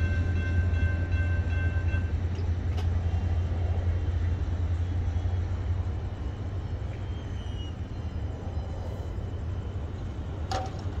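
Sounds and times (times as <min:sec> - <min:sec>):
freight train rumble: 0:00.0 - 0:11.0.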